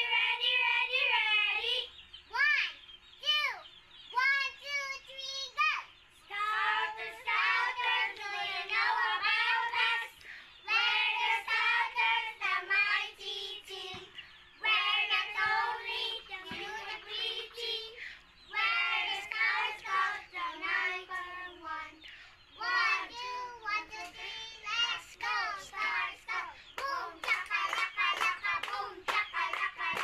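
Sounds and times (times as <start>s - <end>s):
children singing: 0.0s - 1.9s, 6.3s - 30.0s.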